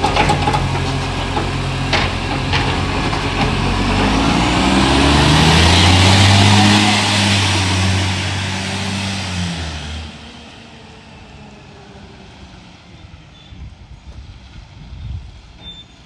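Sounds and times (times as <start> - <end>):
garbage truck engine pulling away: 0.0 - 13.5.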